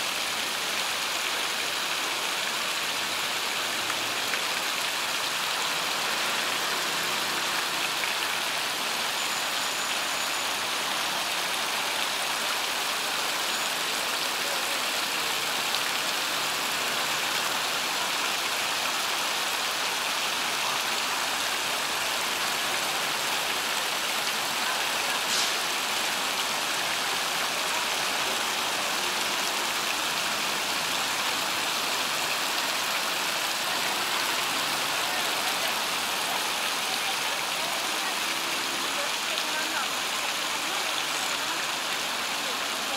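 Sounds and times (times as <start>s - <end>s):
fountain jets splashing: 0.0s - 42.9s.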